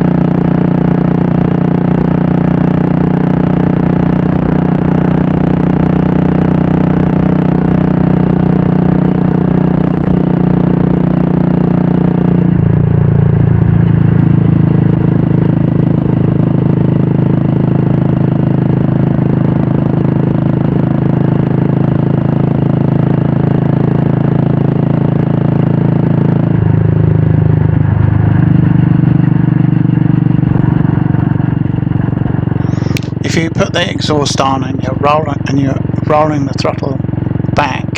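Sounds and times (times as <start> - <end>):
motorcycle engine exhaust note: 0.0 - 37.9.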